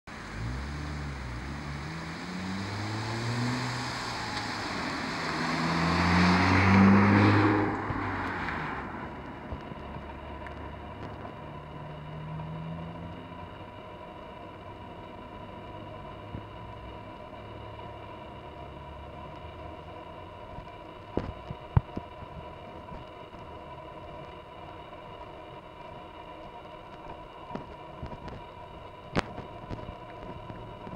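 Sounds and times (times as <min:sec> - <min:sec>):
car engine droning: 0:00.0 - 0:30.9.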